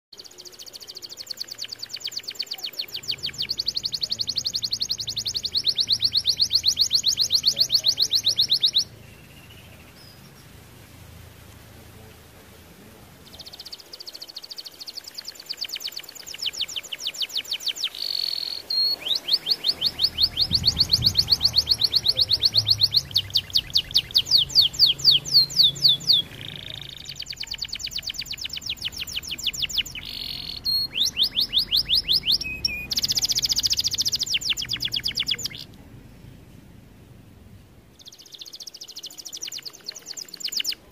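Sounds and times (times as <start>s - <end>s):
canary singing trills: 0.2s - 10.6s, 13.2s - 35.8s, 37.9s - 40.9s.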